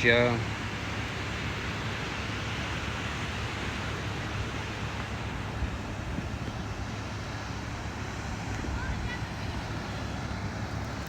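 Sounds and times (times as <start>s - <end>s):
ocean surf on beach: 0.0s - 11.0s
wind: 0.0s - 11.0s
wind rumble on microphone: 0.4s - 11.0s.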